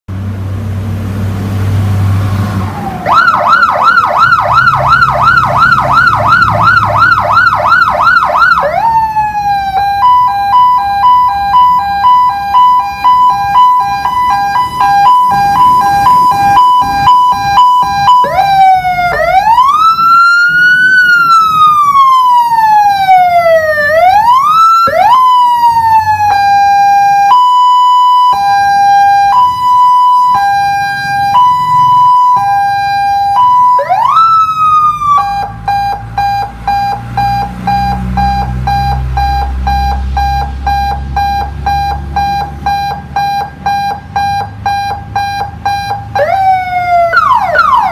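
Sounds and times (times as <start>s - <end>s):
electronic siren: 2.7s - 47.9s.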